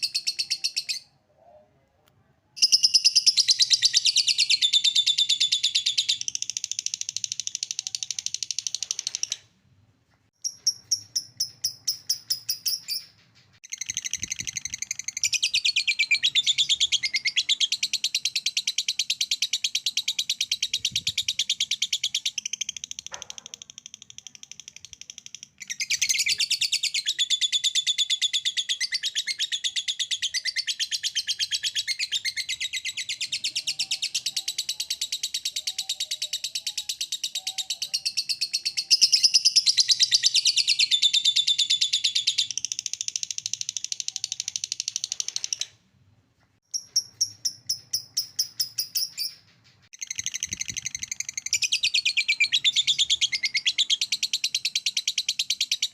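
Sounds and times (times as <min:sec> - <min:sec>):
bird chirps: 0:00.0 - 0:01.7, 0:02.6 - 0:09.6, 0:10.4 - 0:45.8, 0:46.6 - 0:55.9.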